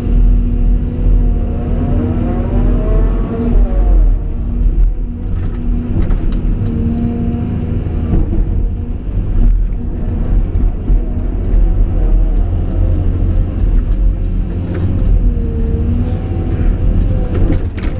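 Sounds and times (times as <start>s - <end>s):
excavator engine rumbling: 0.0s - 17.9s.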